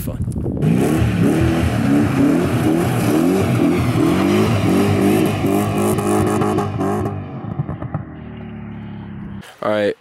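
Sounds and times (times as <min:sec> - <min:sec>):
car engine revving hard: 0:00.6 - 0:09.3.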